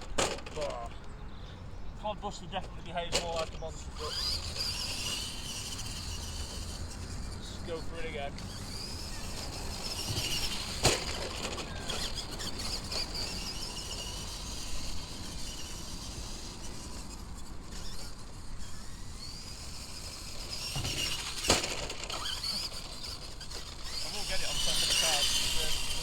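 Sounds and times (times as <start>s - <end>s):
toy truck electric motor whining: 0.0s - 1.0s, 2.1s - 26.0s.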